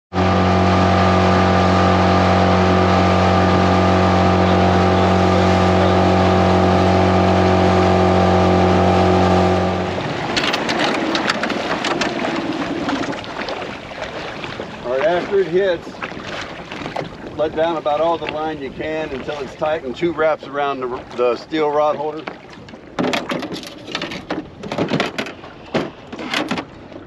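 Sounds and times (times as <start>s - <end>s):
outboard motor running: 0.1s - 27.0s
water: 0.1s - 27.0s.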